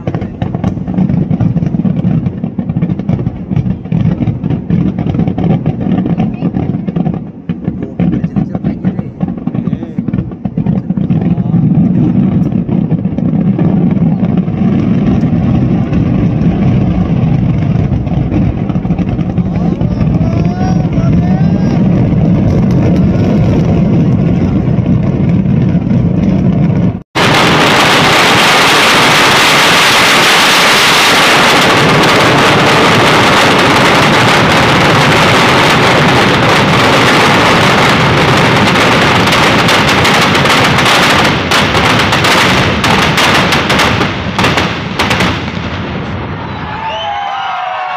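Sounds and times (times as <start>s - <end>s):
fireworks and firecrackers crackling: 0.0s - 47.9s.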